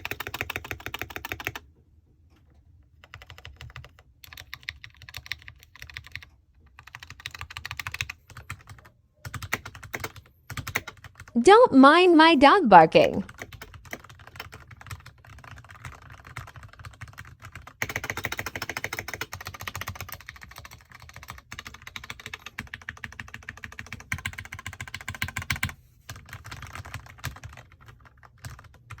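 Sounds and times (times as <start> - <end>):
fast typing on mechanical keyboard: 0.0 - 1.6, 3.0 - 11.4, 13.3 - 29.0.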